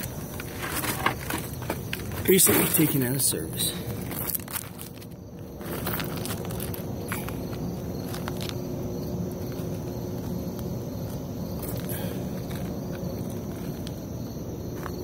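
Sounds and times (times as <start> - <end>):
outdoor rumble and hiss: 0.0 - 15.0.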